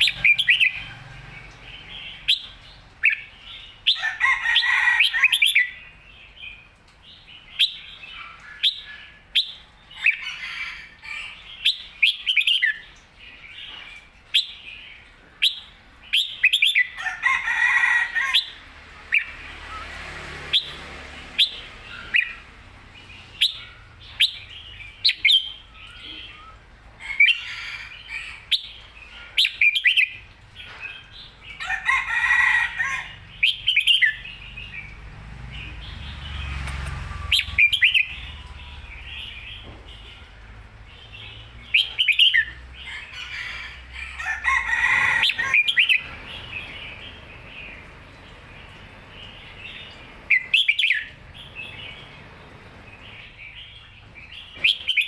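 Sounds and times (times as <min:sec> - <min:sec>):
bird singing: 0:00.0 - 0:10.5, 0:11.2 - 0:17.2, 0:18.2 - 0:55.0.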